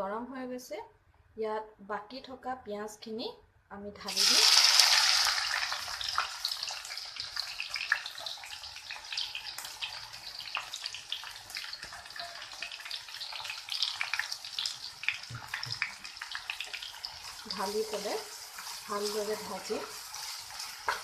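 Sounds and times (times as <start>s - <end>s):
onions sizzling in hot oil: 4.1s - 21.0s.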